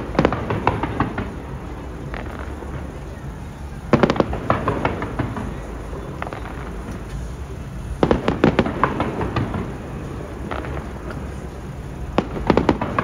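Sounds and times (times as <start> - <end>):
fireworks cracks and bangs: 0.0 - 13.0
low rumble: 0.0 - 13.0.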